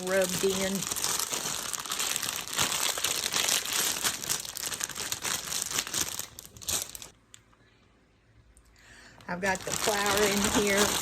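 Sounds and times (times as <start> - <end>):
plastic bag crinkling: 0.0 - 7.2, 9.2 - 11.0.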